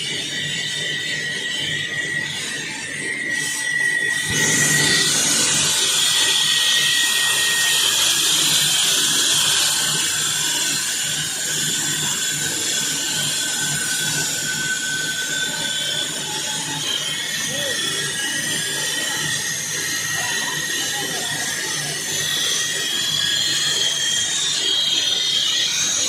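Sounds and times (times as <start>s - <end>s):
floor saw cutting concrete: 0.0s - 26.0s.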